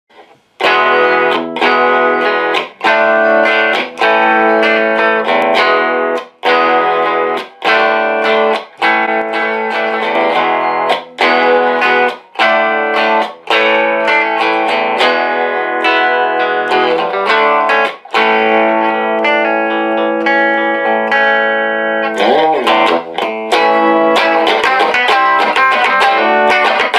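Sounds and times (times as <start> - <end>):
electric guitar chords strummed: 0.1 - 26.9.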